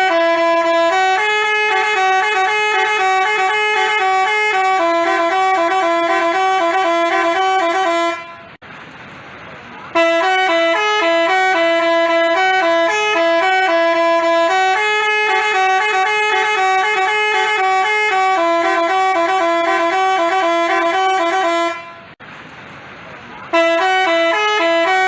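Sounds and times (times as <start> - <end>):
bus horn playing a melody: 0.0 - 8.6, 9.9 - 22.2, 23.5 - 25.0.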